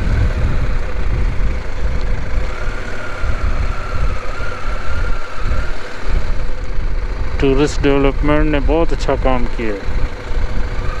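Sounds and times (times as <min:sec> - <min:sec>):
faint wavering whine: 0:00.0 - 0:11.0
motorcycle engine rumbling: 0:00.0 - 0:11.0.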